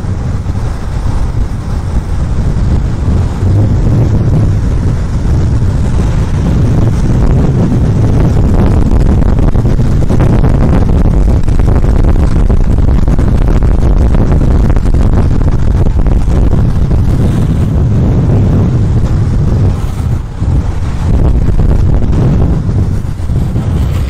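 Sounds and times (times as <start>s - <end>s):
wheels rolling on asphalt: 0.0s - 24.0s
wind buffeting microphone: 0.0s - 24.0s.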